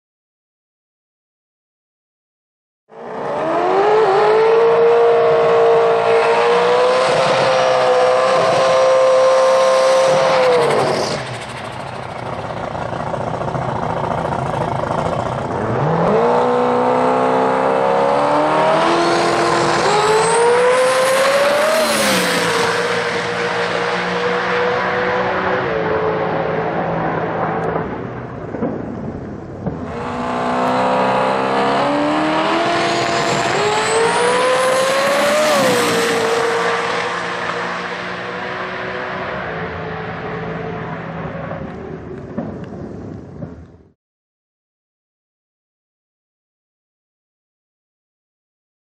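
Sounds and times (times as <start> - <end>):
drag car engine revving: 3.0 - 42.5.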